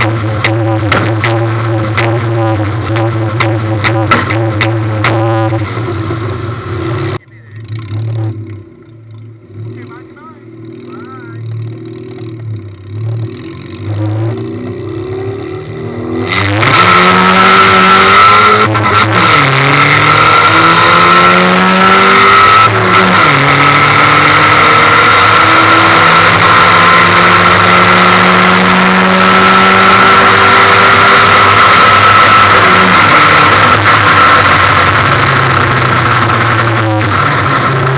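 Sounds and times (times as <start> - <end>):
car engine accelerating hard: 0.0 - 37.9.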